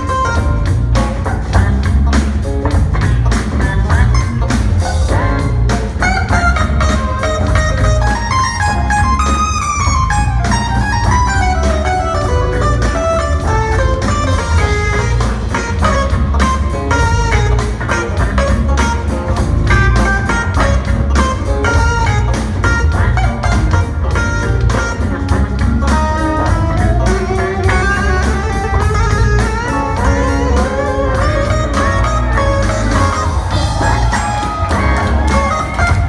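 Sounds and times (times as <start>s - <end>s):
drum kit beat: 0.0s - 36.0s
electric guitar: 0.0s - 36.0s
heavy bass line: 0.0s - 36.0s
keyboard lines: 0.0s - 36.0s.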